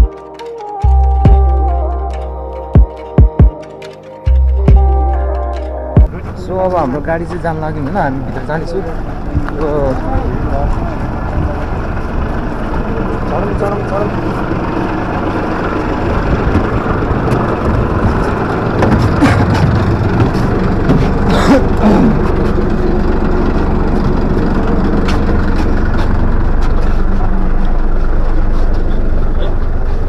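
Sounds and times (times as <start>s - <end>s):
vehicle engine rumble: 4.2s - 30.0s.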